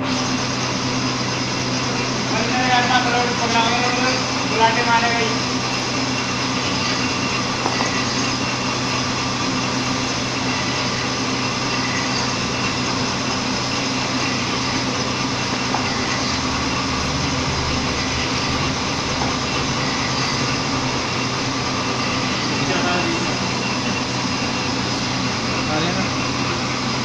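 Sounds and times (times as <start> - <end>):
pasting machine humming: 0.0 - 27.0.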